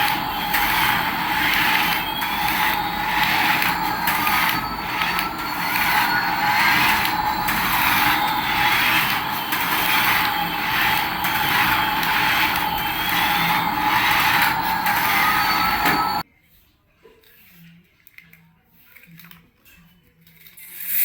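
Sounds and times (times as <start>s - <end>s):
toy vehicle whirring: 0.0s - 16.2s, 18.1s - 21.0s.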